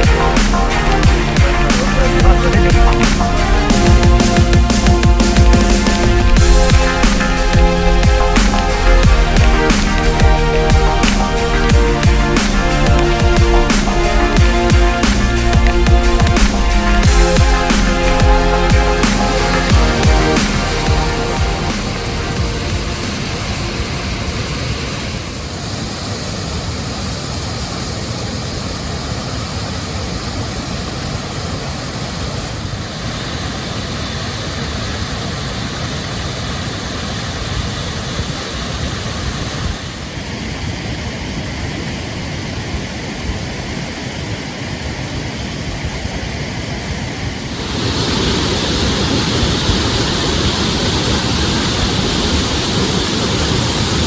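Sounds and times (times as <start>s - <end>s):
wind and road rushing noise: 0.0s - 54.0s.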